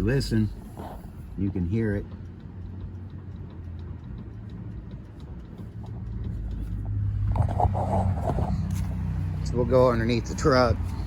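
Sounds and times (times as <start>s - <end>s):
rapid clicking of steering linkage: 0.0s - 11.0s.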